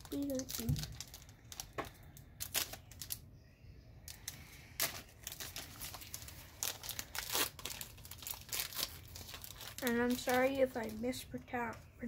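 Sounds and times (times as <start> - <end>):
foil wrapper crinkling and tearing: 0.0 - 3.3, 4.1 - 11.8.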